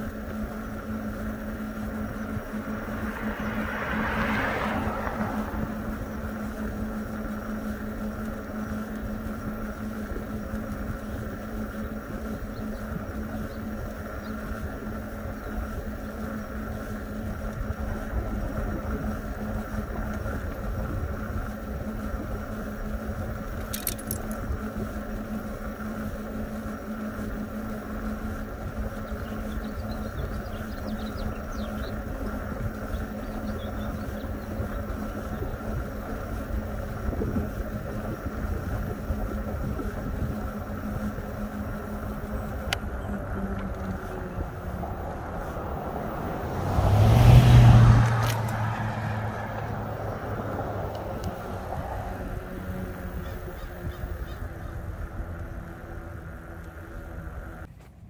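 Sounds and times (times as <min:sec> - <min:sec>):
electric motor hum: 0:00.0 - 0:57.7
wind: 0:00.0 - 0:58.0.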